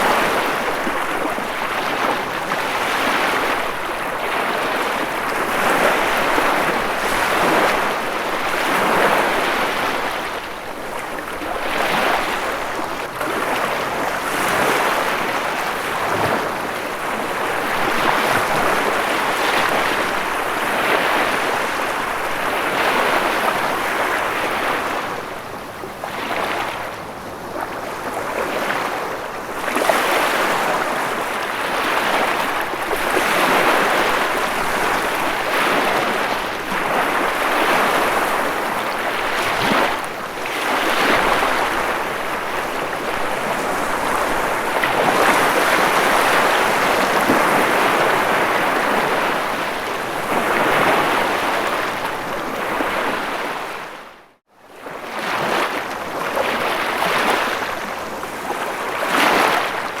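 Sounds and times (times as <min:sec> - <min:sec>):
ocean waves breaking: 0:00.0 - 0:54.2, 0:54.8 - 1:00.0.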